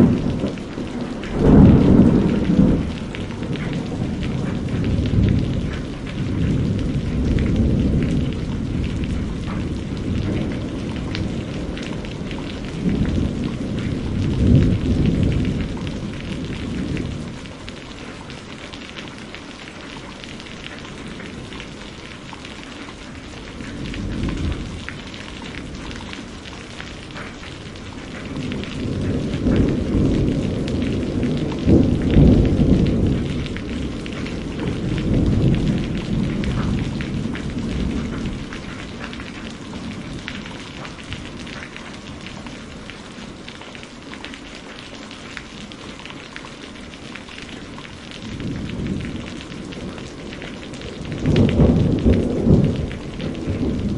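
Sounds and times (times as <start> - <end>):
thunder rumbling: 0.0 - 44.4, 46.9 - 53.9
steady rain: 0.0 - 53.9.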